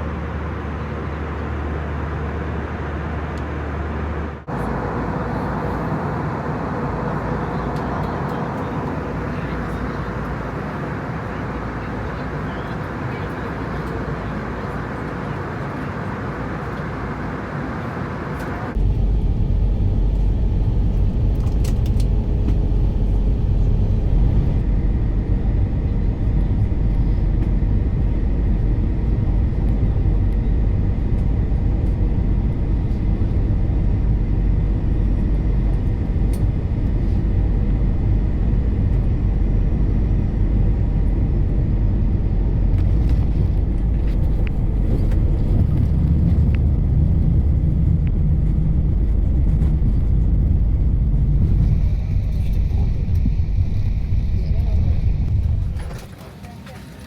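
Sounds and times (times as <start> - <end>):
aircraft engine rumble: 0.0 - 57.0.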